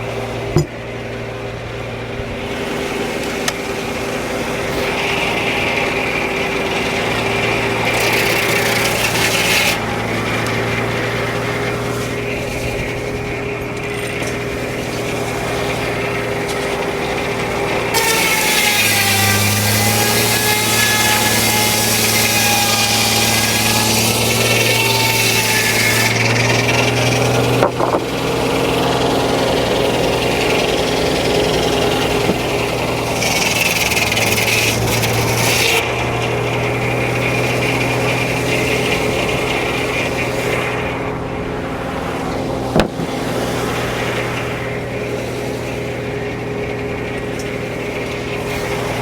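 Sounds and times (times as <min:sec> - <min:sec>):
circular saw blade cutting log: 0:00.0 - 0:49.0
engine running: 0:00.0 - 0:49.0.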